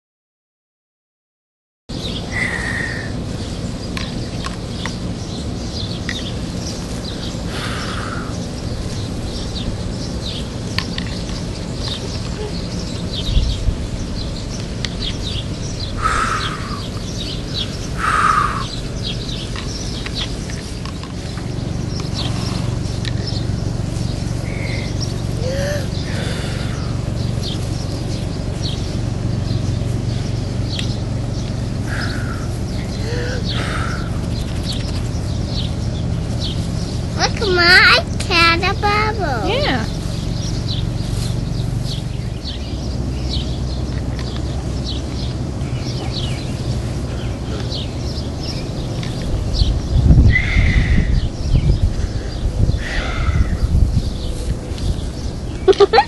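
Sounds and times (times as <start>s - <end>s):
harsh bird calls: 1.9s - 56.0s
small bird chirps: 2.0s - 56.0s.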